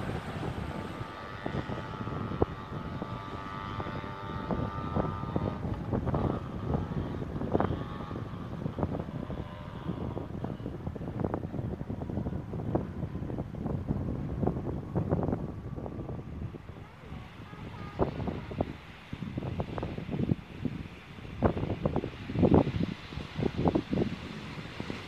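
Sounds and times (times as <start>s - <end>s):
diesel train engine drone: 0.0s - 25.0s
wind buffeting microphone: 0.0s - 25.0s.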